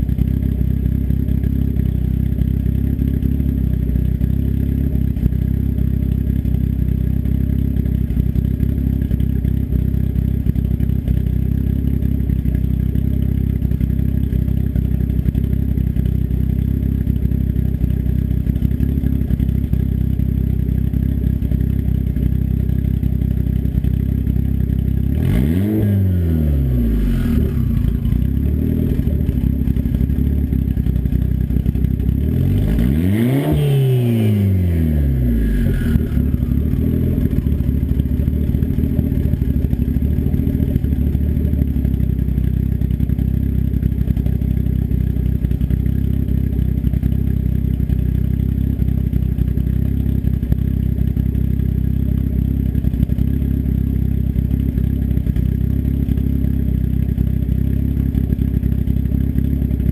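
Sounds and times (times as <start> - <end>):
turbocharged engine idling and revving: 0.0 - 59.9.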